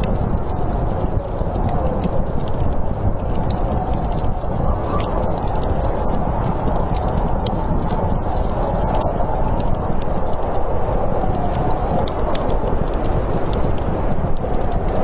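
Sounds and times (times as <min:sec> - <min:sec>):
campfire crackling: 0:00.0 - 0:15.0
snowstorm wind rushing: 0:00.0 - 0:15.0.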